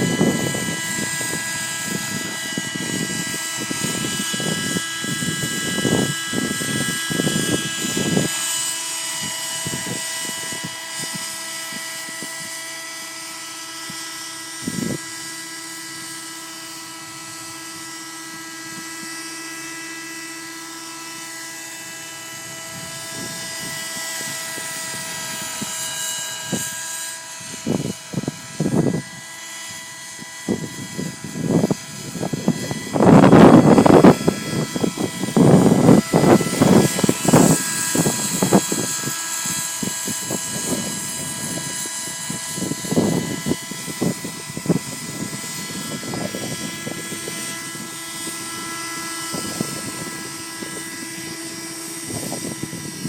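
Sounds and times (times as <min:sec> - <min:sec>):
model helicopter engine whine: 0:00.0 - 0:53.0
wind buffeting microphone: 0:00.0 - 0:53.0.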